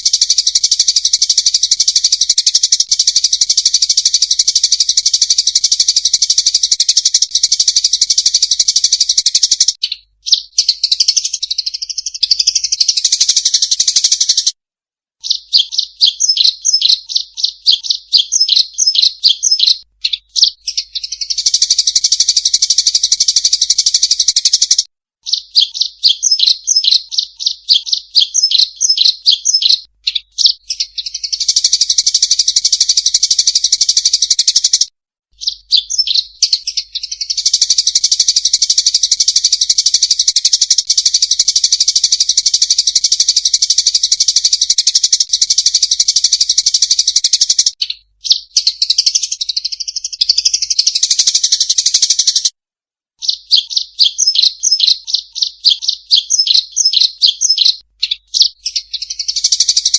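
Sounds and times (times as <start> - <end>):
sparrows chirping and chattering: 0.0 - 14.6, 15.2 - 52.5, 53.2 - 59.9.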